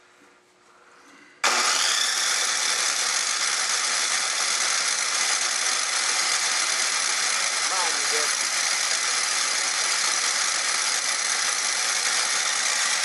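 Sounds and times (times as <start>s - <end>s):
engine cranking over: 1.4s - 13.0s.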